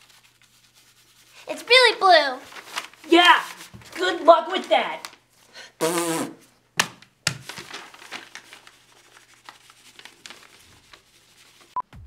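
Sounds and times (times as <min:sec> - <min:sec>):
paper rustling: 0:00.0 - 0:05.3, 0:06.8 - 0:11.8.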